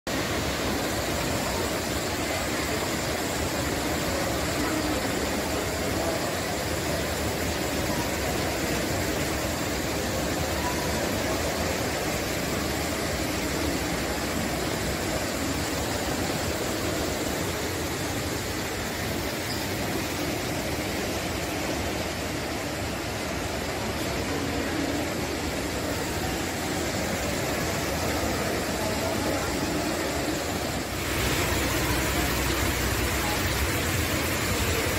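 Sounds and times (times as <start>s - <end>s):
indoor waterfall rushing: 0.1s - 34.9s.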